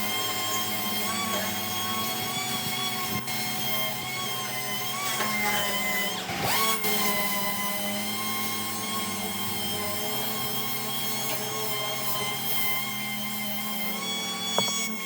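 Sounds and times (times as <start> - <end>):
power sander whining: 0.0 - 15.0.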